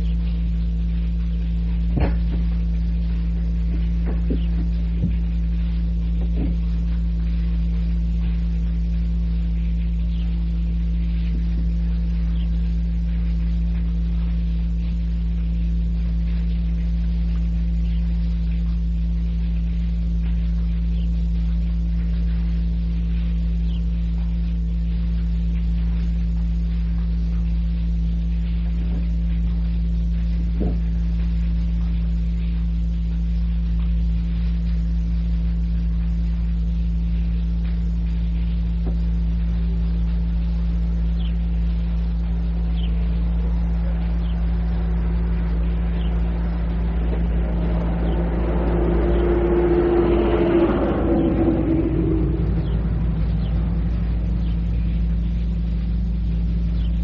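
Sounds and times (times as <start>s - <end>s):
electrical mains hum: 0.0s - 57.0s
tape hiss: 0.0s - 57.0s.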